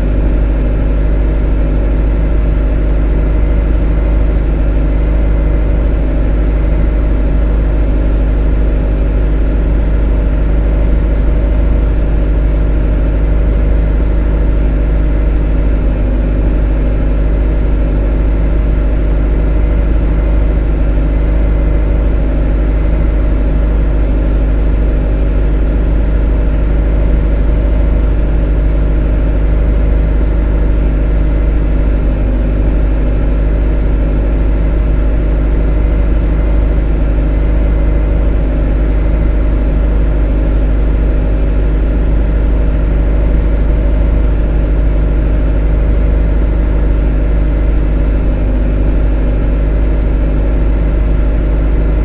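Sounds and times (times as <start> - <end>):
motor droning: 0.0 - 52.0.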